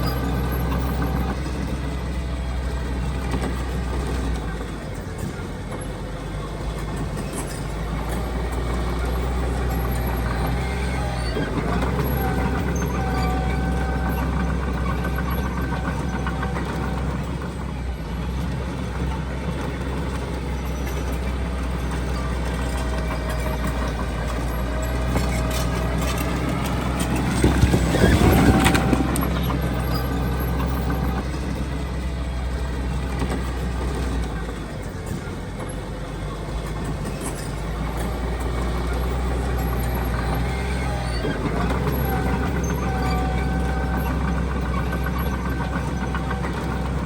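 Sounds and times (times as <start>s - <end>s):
diesel machinery engine running: 0.0s - 47.0s.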